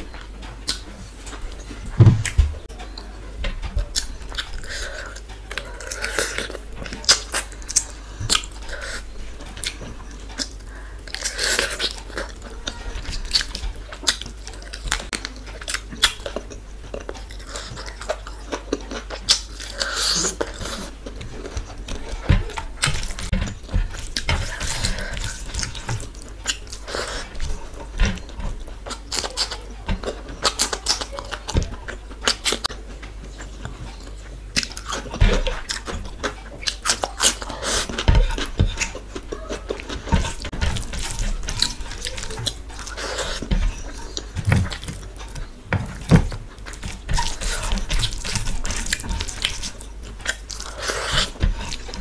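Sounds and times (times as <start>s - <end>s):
mouth chewing and smacking: 0.0s - 52.0s
fingers squishing food: 3.8s - 52.0s.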